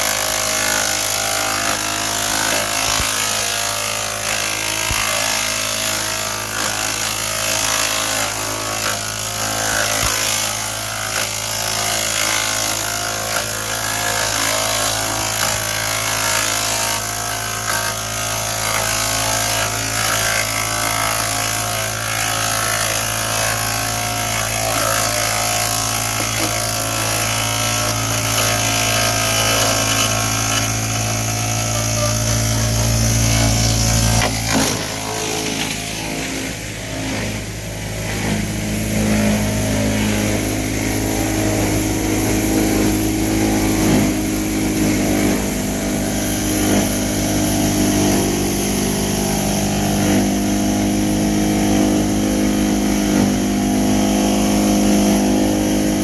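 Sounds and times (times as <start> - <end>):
knocks and crackles of grinding: 0.0 - 48.4
chipper-shredder engine hum: 0.0 - 56.0.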